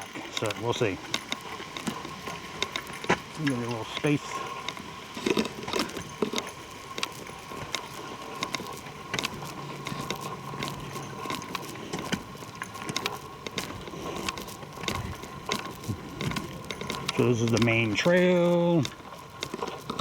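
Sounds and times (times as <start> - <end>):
footsteps on forest trail: 0.0 - 20.0.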